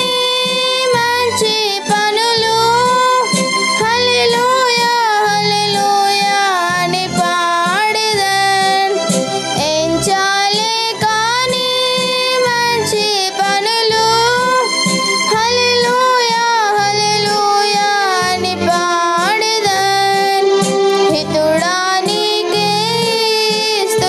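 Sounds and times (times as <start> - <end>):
girl singing: 0.0 - 9.0, 9.6 - 24.0
electronic keyboard accompaniment: 0.0 - 24.0.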